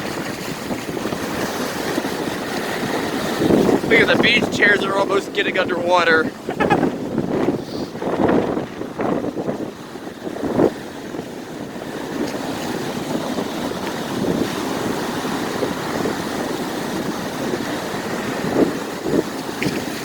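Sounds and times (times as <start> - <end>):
heavy surf washing ashore: 0.0 - 20.0
wind buffeting microphone: 0.0 - 20.0.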